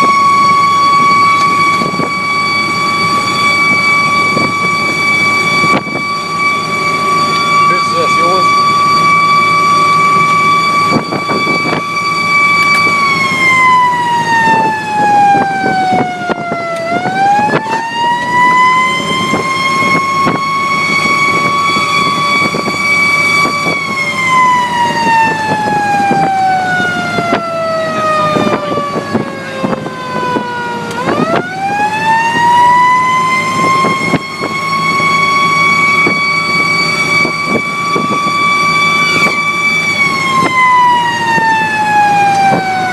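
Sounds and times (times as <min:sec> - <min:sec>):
fire engine siren wailing: 0:00.0 - 0:42.9
truck engine running: 0:00.0 - 0:42.9.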